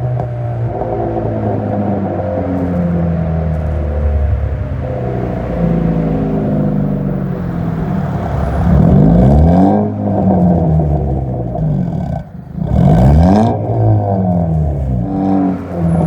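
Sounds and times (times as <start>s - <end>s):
car exhaust revving: 0.0s - 16.0s.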